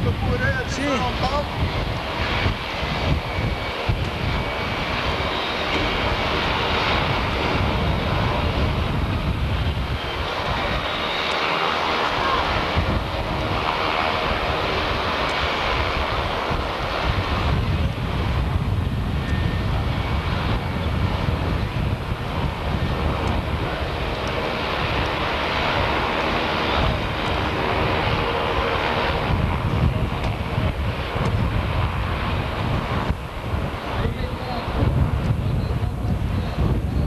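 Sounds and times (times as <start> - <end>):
turboprop engines running: 0.0 - 37.0.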